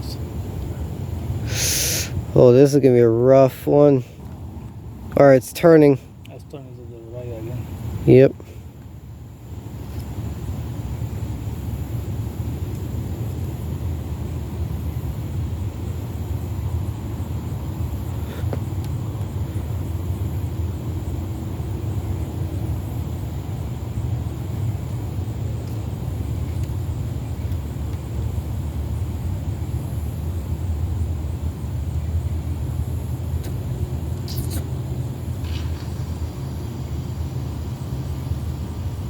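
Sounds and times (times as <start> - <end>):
jet airplane engines rumbling: 0.0 - 39.0.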